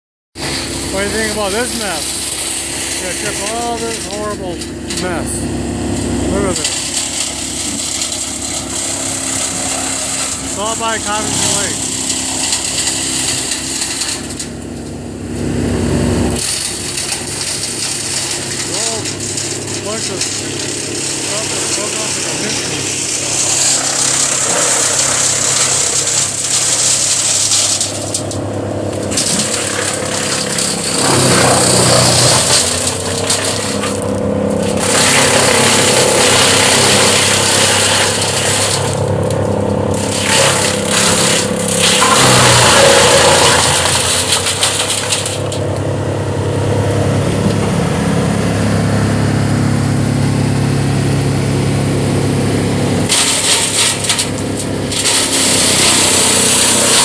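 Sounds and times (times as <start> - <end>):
diesel engine drone: 0.4 - 57.0
wood chipper shredding branches: 0.4 - 57.0.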